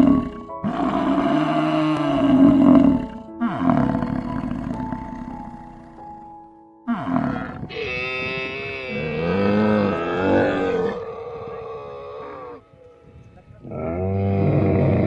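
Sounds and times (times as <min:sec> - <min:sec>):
camel calling: 0:00.0 - 0:06.0, 0:06.9 - 0:15.0.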